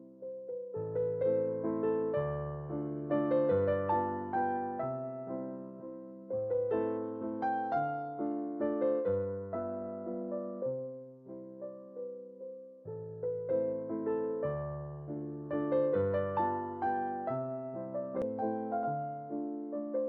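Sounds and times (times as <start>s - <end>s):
soft electric piano melody: 0.0s - 20.0s.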